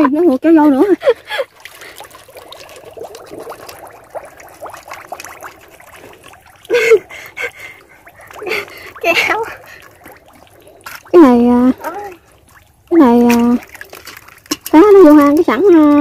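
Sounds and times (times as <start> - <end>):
muddy water trickling and sloshing: 0.0 - 16.0.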